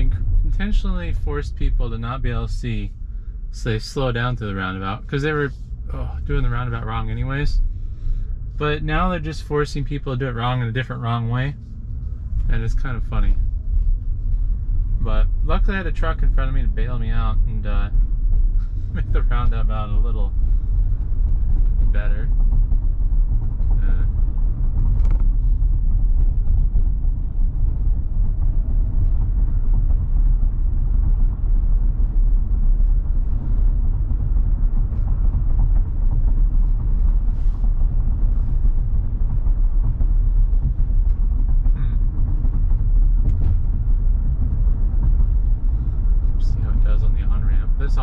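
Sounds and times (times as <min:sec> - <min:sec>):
tyre and wind noise in car cabin: 0:00.0 - 0:48.0.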